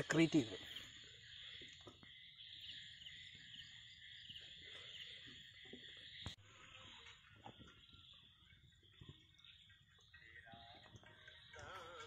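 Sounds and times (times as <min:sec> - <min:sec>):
crickets and frogs trilling: 0:00.0 - 0:12.0.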